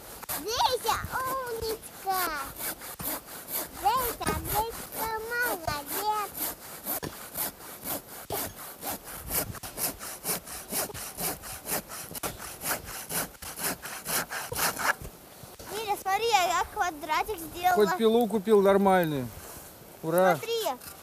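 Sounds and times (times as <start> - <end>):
hand saw cutting log: 0.0 - 18.6, 20.1 - 21.0.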